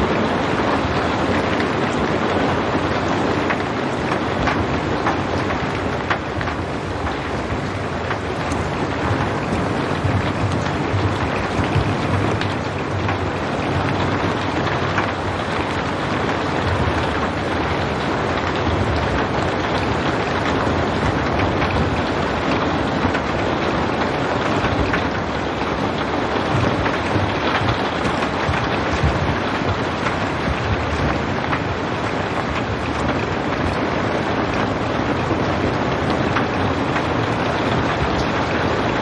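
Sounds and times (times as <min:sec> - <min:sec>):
rain drop taps: 0:00.0 - 0:39.0
steady rain falling: 0:00.0 - 0:39.0.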